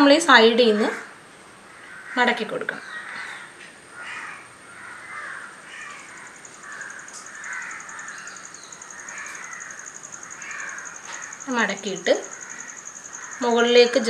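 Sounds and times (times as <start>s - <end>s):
crows cawing: 1.7s - 14.0s.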